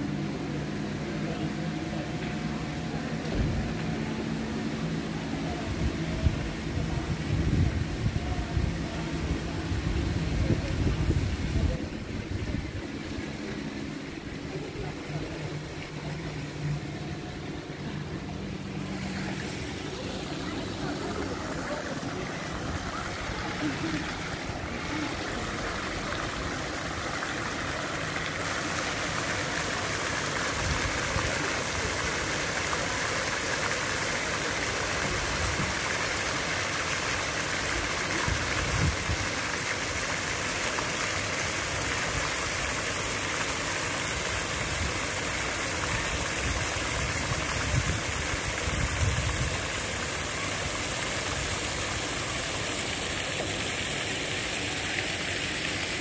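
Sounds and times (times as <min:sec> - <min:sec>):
rushing outdoor background noise: 0:00.0 - 0:56.0.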